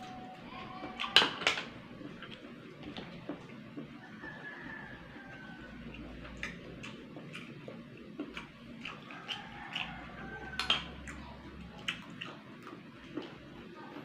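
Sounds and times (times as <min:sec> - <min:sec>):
chewing and wet smacks: 0:00.7 - 0:14.0.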